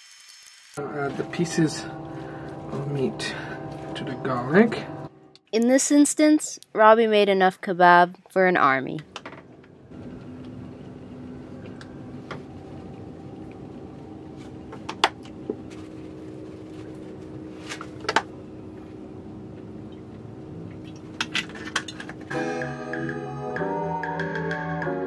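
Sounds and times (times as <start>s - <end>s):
steady background hum: 0.8s - 22.3s.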